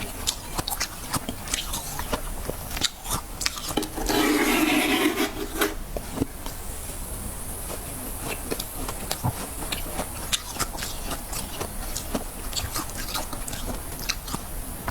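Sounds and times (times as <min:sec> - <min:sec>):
frost being chewed: 0:00.0 - 0:03.8, 0:06.0 - 0:14.9.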